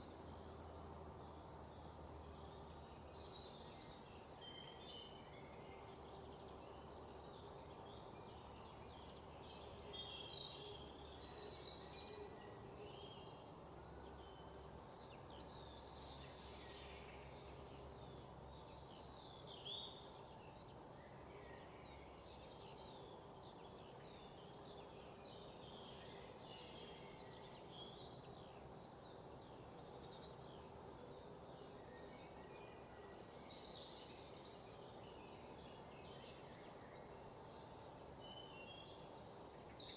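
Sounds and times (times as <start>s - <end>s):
forest birds chirping: 0.0s - 39.9s
steady low background hiss: 0.0s - 39.9s.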